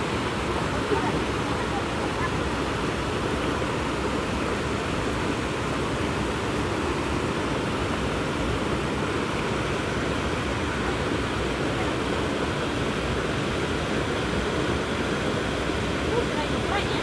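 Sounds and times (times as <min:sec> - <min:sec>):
flowing river water: 0:00.0 - 0:17.0
wind: 0:00.0 - 0:17.0.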